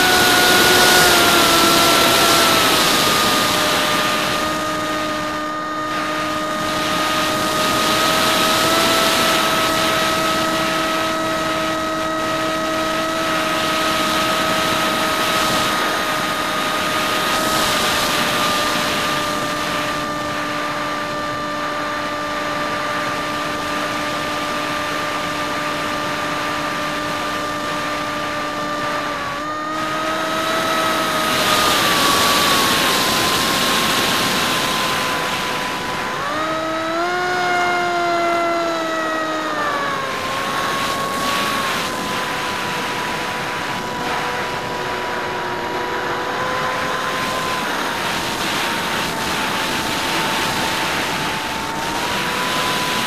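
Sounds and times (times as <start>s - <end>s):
electric motor whine: 0.0s - 53.0s.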